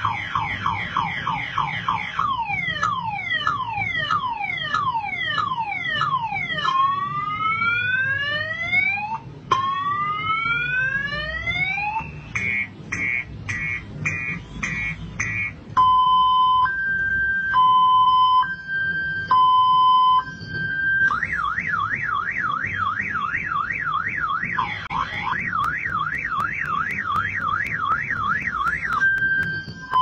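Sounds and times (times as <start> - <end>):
motorcycle alarm siren: 0.0 - 30.0.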